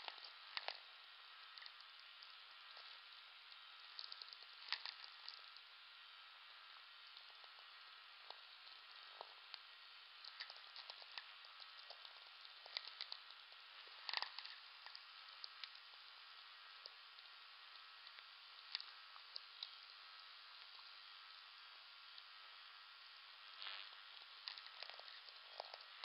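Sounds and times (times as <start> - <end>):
crackling sferics clicks and pops: 0.0 - 26.0
steady radio hiss: 0.0 - 26.0.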